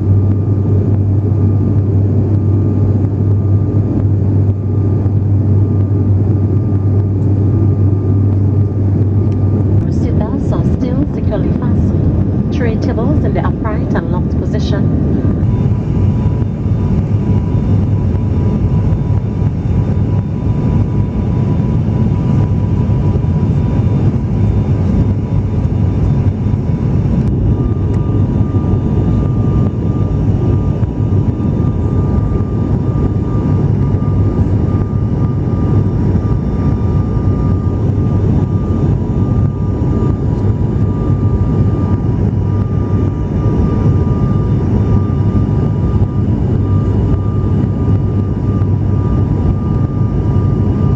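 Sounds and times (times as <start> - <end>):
turboprop cabin drone: 0.0 - 50.9.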